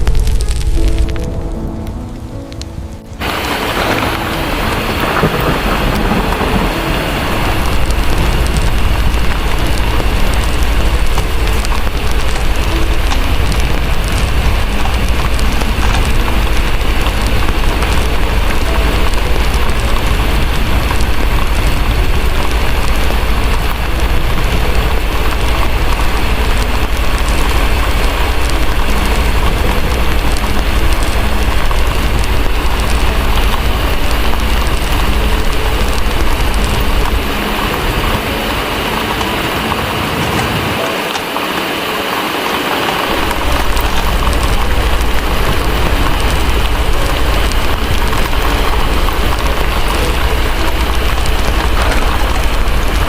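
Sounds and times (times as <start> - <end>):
deep rumble: 0.0 - 41.1, 42.9 - 53.0
fireplace crackling: 0.0 - 53.0
heavy rain: 0.0 - 53.0.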